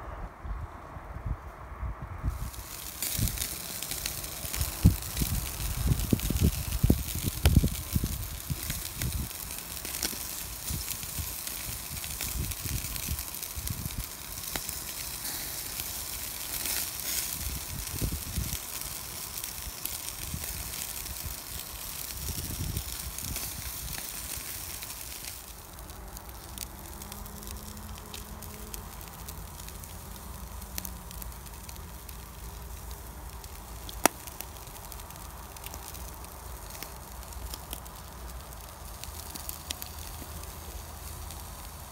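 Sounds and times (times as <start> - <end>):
coals crackling: 2.2 - 41.9
chicken sizzling on grill: 2.3 - 41.9.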